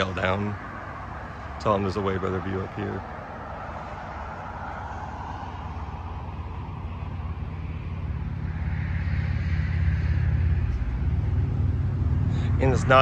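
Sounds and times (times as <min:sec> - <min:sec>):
vehicle engine approaching: 0:00.0 - 0:13.0.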